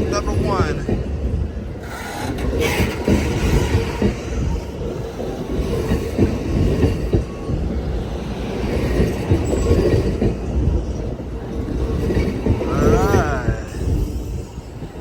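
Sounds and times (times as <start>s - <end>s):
train clanks and knocks: 0.0s - 15.0s
train wheels rumbling on rail: 0.0s - 15.0s.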